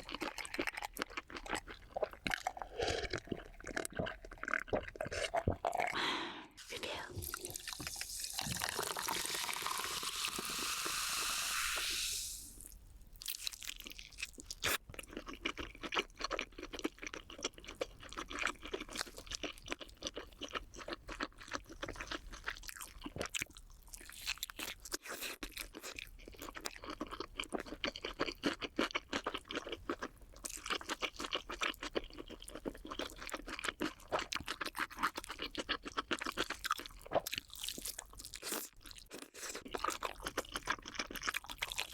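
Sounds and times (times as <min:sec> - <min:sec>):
crunching and chewing: 0:00.0 - 0:06.0, 0:12.6 - 0:41.9.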